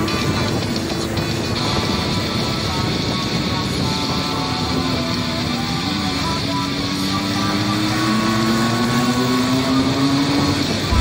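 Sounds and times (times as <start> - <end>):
motorcycle engines running: 0.0 - 11.0
wind and road noise: 0.0 - 11.0.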